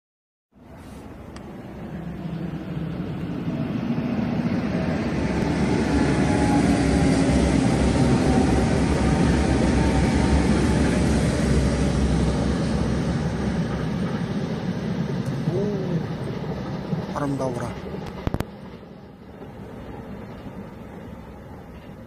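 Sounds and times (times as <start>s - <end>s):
high-speed train rumbling: 0.6s - 22.0s.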